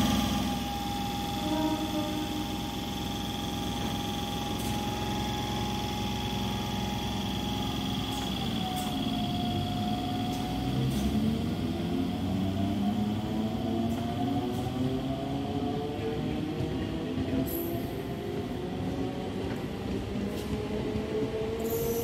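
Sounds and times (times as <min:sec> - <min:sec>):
electric train humming and whining: 0:00.0 - 0:22.0.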